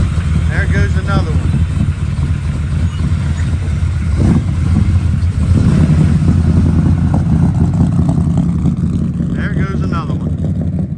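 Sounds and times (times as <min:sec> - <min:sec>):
pickup truck engine rumbling: 0:00.0 - 0:10.9.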